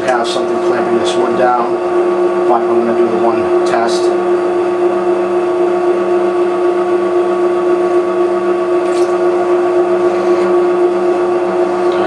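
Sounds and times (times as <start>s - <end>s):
drill press motor hum: 0.0s - 12.0s.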